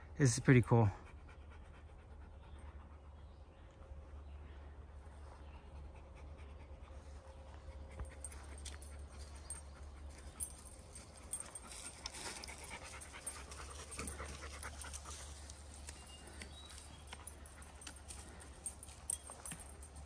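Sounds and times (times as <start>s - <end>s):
dog panting: 0.9s - 4.4s, 5.2s - 20.0s.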